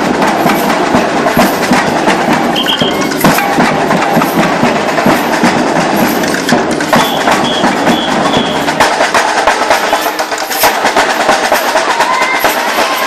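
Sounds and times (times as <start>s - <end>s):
street percussion band playing: 0.0s - 13.0s.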